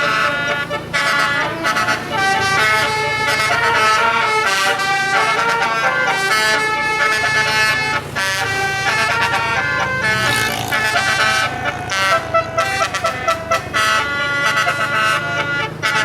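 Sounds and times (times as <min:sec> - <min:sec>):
bus horn playing a melody: 0:00.0 - 0:16.0.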